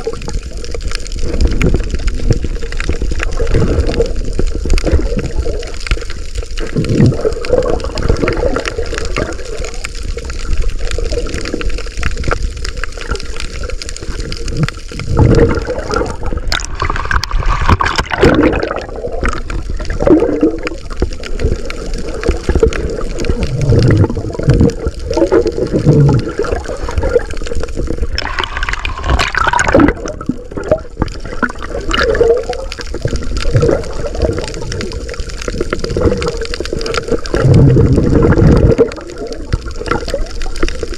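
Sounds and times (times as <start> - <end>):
rushes of bubbling: 0.0 - 40.9
water sloshing underwater: 0.0 - 40.9.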